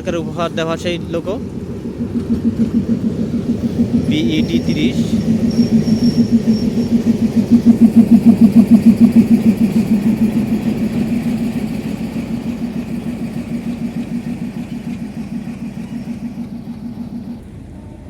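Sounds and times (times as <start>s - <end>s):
diesel locomotive engine throbbing: 0.0s - 18.0s.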